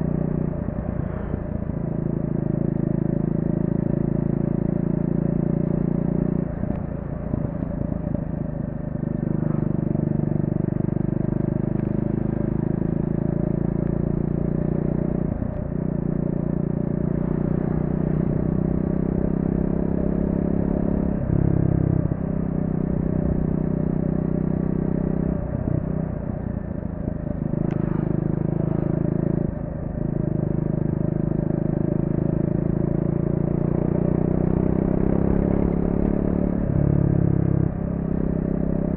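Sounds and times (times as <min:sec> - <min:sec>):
motorcycle engine under throttle: 0:00.0 - 0:38.9.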